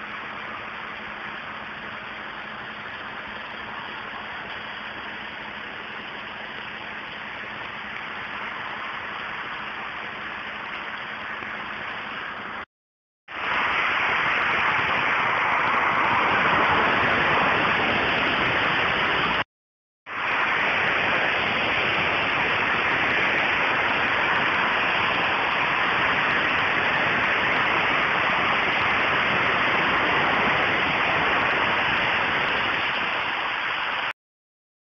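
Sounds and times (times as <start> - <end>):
loud static hiss: 0.0 - 12.7, 13.3 - 19.4, 20.1 - 34.1.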